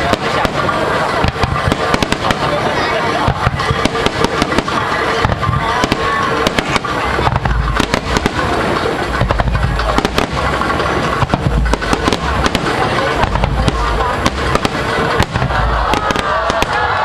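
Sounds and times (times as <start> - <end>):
fireworks booming bursts: 0.0 - 17.0
fireworks crackling: 0.0 - 17.0.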